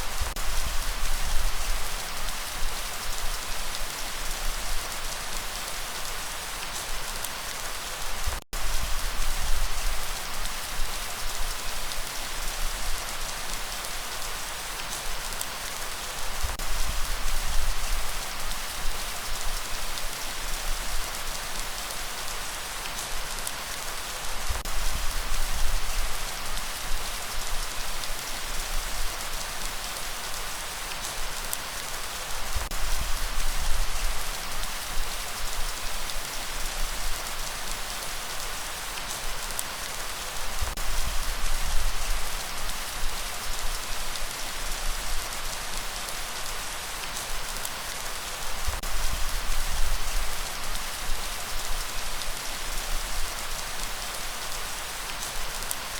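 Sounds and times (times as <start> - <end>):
light rain hissing: 0.0 - 55.9.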